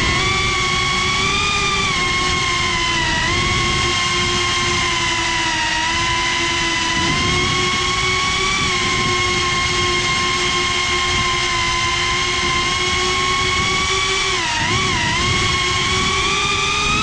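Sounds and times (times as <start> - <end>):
drone motors and propellers whining: 0.0 - 17.0.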